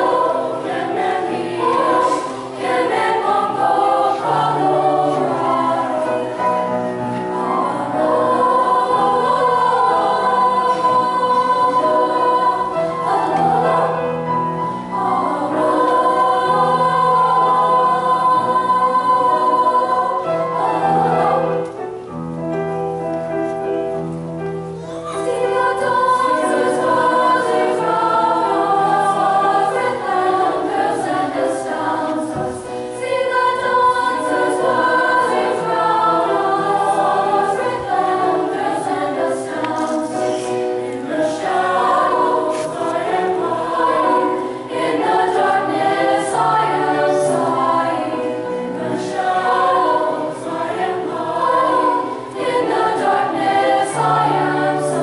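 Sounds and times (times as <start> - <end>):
choir singing sustained chords: 0.0 - 22.0, 24.7 - 55.0.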